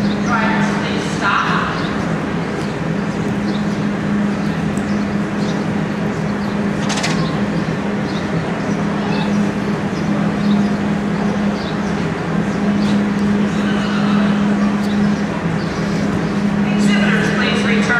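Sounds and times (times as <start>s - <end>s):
rushing background noise: 0.0s - 17.9s.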